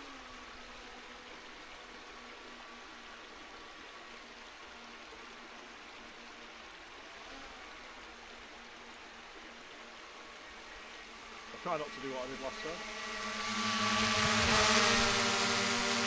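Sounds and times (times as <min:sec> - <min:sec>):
brook water rushing: 0:00.0 - 0:16.0.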